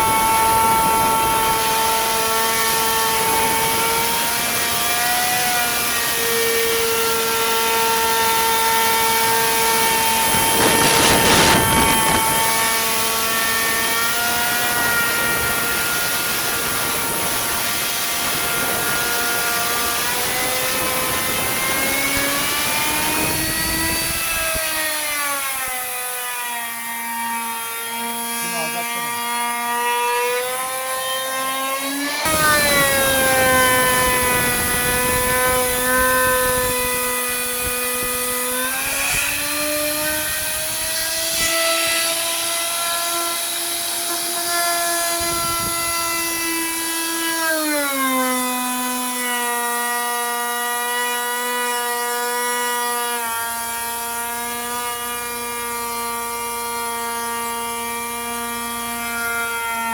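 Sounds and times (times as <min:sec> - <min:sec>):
power tool motor whining: 0:00.0 - 0:59.9
tool grinding wood: 0:00.0 - 0:59.9.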